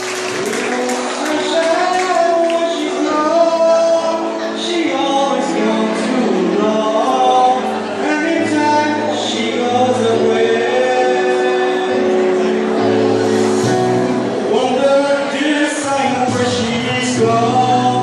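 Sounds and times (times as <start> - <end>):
person singing into a microphone: 0.3 - 18.0.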